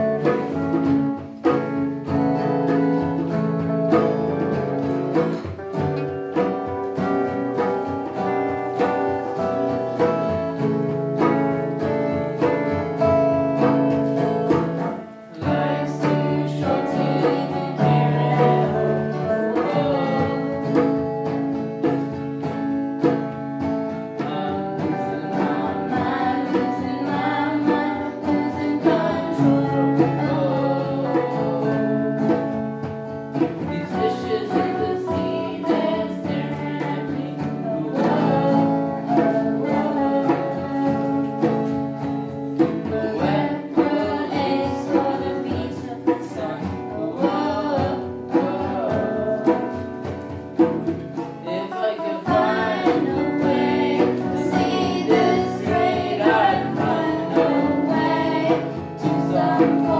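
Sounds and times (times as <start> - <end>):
guitar: 0.0 - 59.9
person singing: 0.0 - 59.9.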